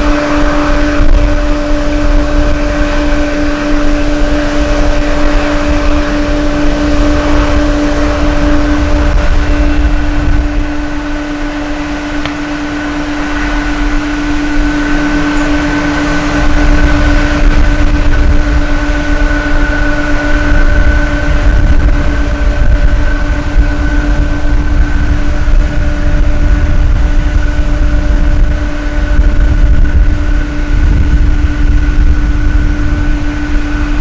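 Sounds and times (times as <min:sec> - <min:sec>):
jet engines whining: 0:00.0 - 0:34.0
wind rumble on microphone: 0:00.0 - 0:34.0.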